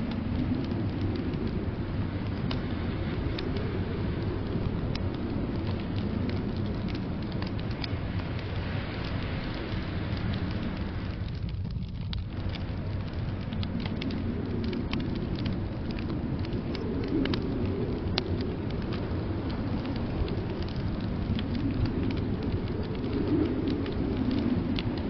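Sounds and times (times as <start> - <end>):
blizzard wind rumble: 0.0 - 25.0
wood fire crackling and popping: 0.0 - 25.0.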